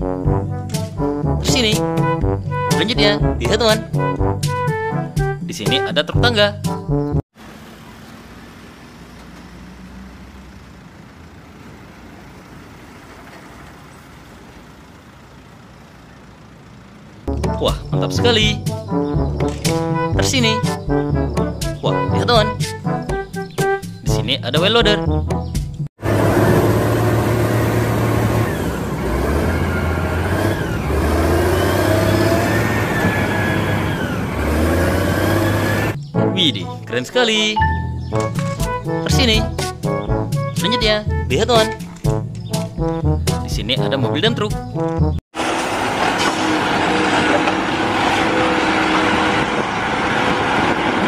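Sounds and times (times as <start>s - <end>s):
truck engine rumbling: 0.0s - 51.0s.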